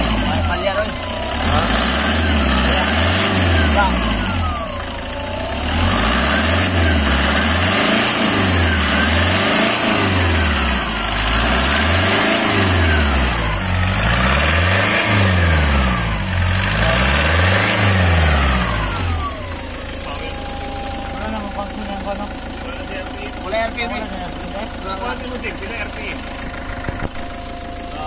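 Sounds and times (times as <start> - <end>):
engine revving: 0.0 - 28.0.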